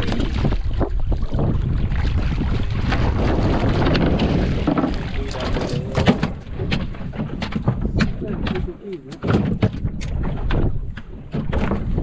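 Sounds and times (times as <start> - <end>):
fish splashing in water: 0.0 - 9.9
wind on microphone: 0.0 - 12.0.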